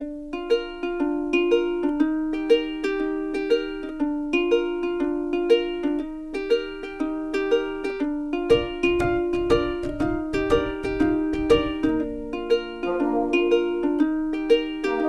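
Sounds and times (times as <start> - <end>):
plucked string tune: 0.0 - 15.0.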